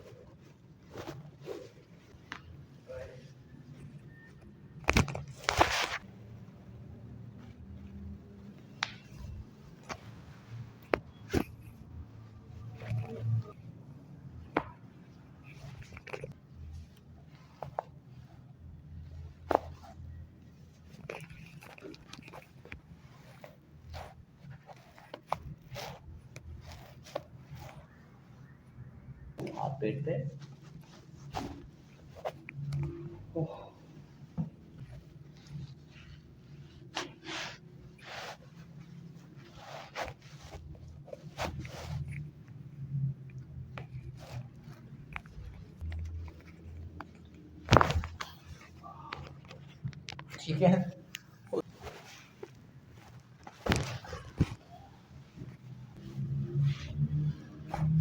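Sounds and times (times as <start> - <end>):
faint clicks and rustles: 0.0 - 58.0.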